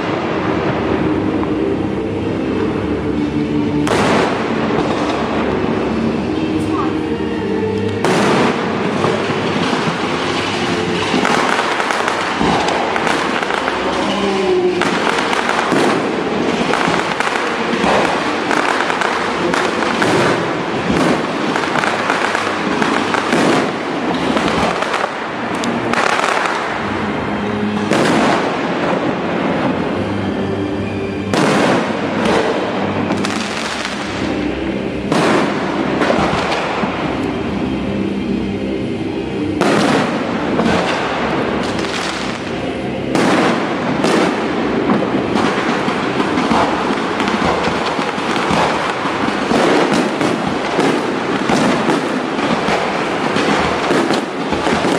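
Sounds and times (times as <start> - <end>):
fireworks crackling and banging: 0.0 - 54.9.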